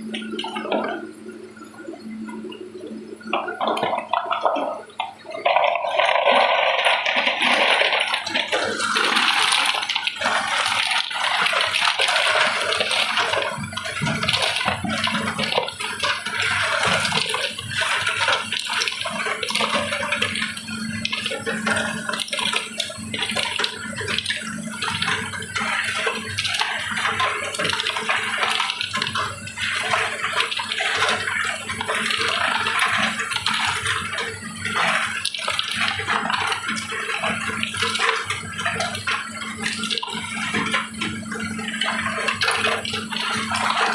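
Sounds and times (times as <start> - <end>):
low machine hum: 0.0 - 43.9
water running and splashing: 3.3 - 43.9.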